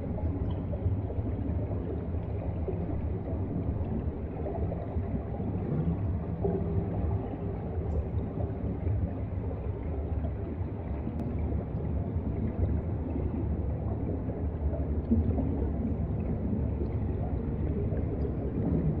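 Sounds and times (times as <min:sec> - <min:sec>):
underwater rumble of moving water: 0:00.0 - 0:19.0.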